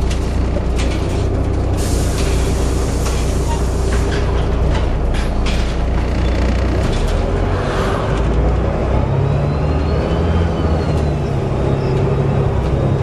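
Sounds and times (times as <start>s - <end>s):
bus rattles: 0.0s - 13.0s
diesel bus engine drone: 0.0s - 13.0s.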